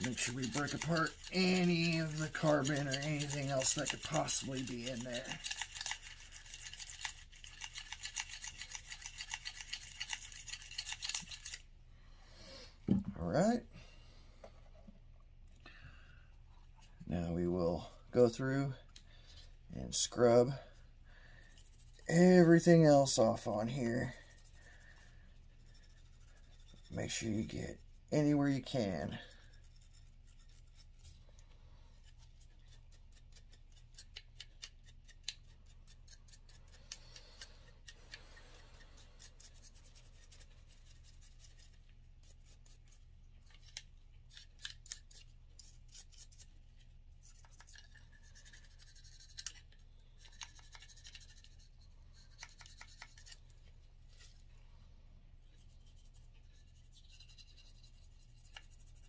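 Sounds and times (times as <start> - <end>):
brush scrubbing: 0.0 - 11.7, 21.4 - 54.8, 55.4 - 59.0.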